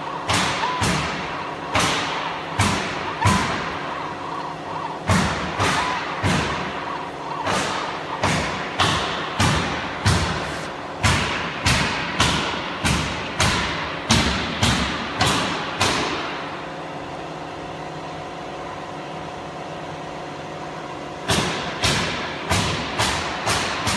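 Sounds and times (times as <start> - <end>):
machine hum: 0.0 - 23.9.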